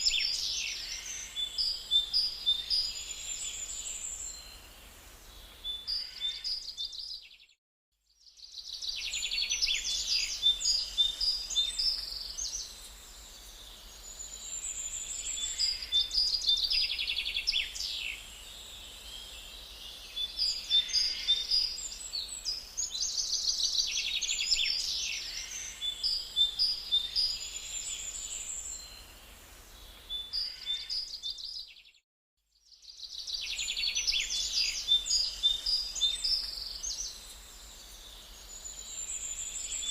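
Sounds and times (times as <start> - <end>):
songbirds singing: 0.0 - 7.6, 8.2 - 32.0, 32.6 - 39.9.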